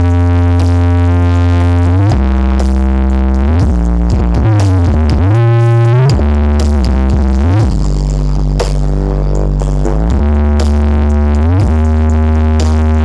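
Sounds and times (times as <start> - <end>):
deep synth bass notes: 0.0 - 13.0
loud electronic dance music: 0.0 - 13.0
sliding synth lines: 0.0 - 13.0.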